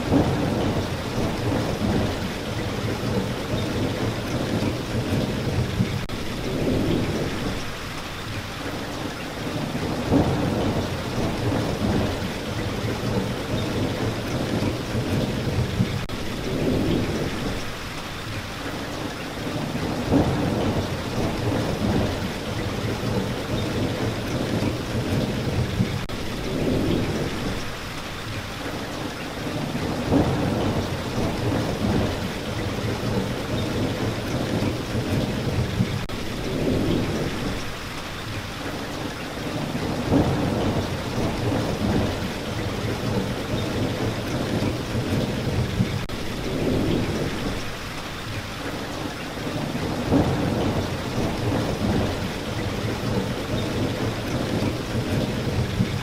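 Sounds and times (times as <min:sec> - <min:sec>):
thunder rumbling: 0:00.0 - 0:07.8, 0:09.5 - 0:17.8, 0:19.5 - 0:27.8, 0:29.5 - 0:37.8, 0:39.4 - 0:47.8, 0:49.4 - 0:56.0
steady rain: 0:00.0 - 0:56.0.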